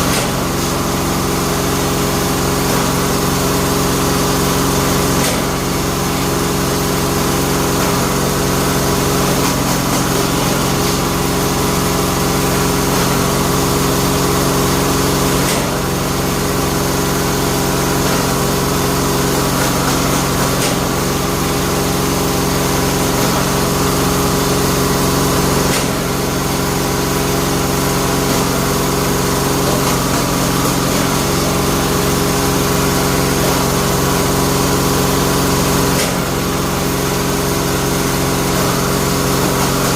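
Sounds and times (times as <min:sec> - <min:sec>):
machine motor humming: 0:00.0 - 0:39.9.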